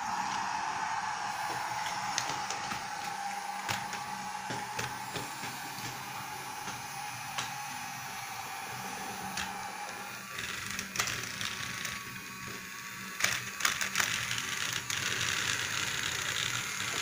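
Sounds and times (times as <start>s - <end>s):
toy train motor whirring: 0.0s - 17.0s.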